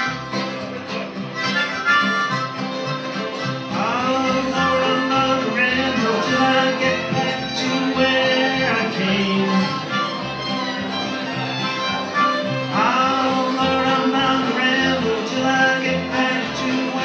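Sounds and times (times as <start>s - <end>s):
fiddle: 0.0s - 17.0s
harmonica: 0.0s - 17.0s
plucked bass line: 0.0s - 17.0s
strummed acoustic guitar: 0.0s - 17.0s.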